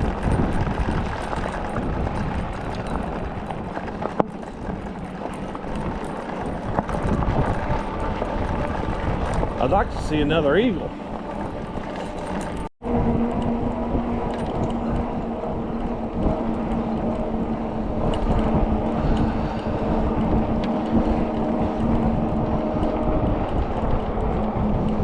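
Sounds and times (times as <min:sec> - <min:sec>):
road and wind noise: 0:00.0 - 0:25.0
vehicle engine hum: 0:00.0 - 0:25.0.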